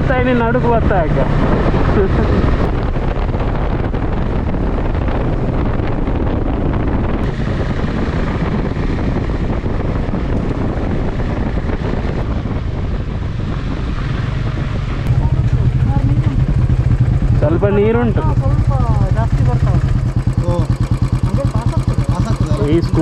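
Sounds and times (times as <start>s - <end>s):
motorcycle engine running: 0.0s - 23.0s
wind noise on microphone: 0.0s - 23.0s.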